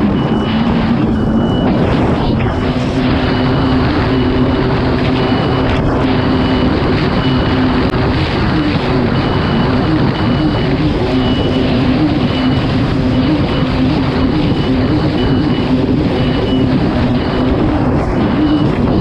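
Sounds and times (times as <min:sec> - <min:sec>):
short high beep: 0:00.0 - 0:07.9, 0:08.5 - 0:19.0
jet ski engine running: 0:00.0 - 0:19.0
wind noise: 0:00.0 - 0:19.0.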